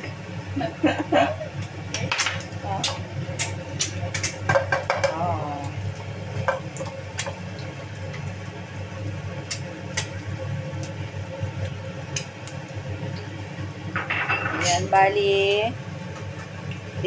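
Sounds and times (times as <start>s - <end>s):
eggs sizzling in oil: 0.0s - 17.0s
steady low hum: 0.0s - 17.0s.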